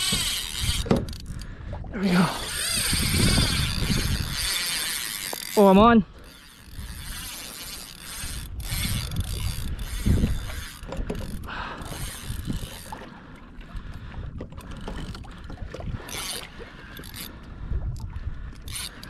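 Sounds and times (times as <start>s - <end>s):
fishing reel drag ratcheting: 0.0s - 1.6s, 2.2s - 13.1s, 13.9s - 15.4s, 16.0s - 19.0s.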